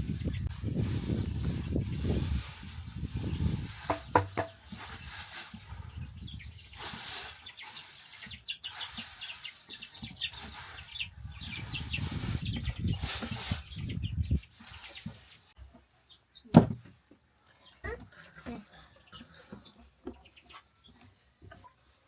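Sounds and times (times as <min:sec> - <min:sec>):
chickens clucking: 0:01.4 - 0:22.0.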